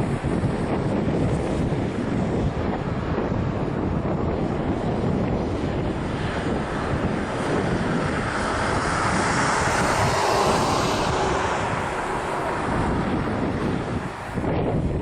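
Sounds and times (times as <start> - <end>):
jet plane passing: 0.0 - 15.0.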